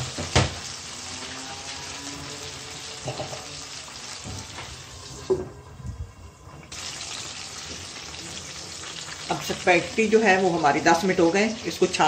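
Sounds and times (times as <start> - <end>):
chicken sizzling in oil: 0.0 - 5.4, 6.7 - 12.0.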